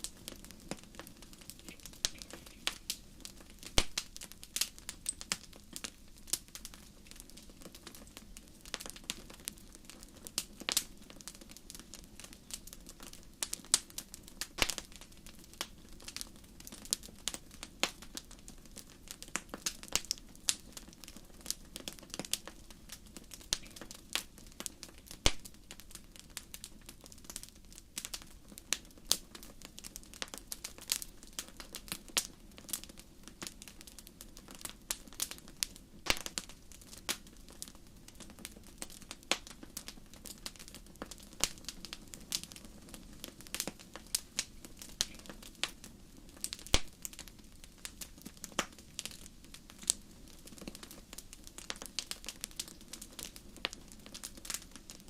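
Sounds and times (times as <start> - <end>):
fire crackling: 0.0 - 55.0
soft steady hiss: 0.0 - 55.0.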